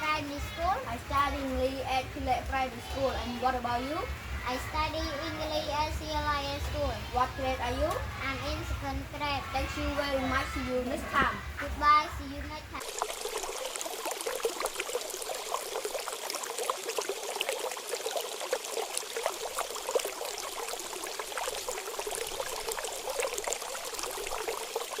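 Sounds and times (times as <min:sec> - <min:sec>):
water trickling and babbling: 0:00.0 - 0:25.0.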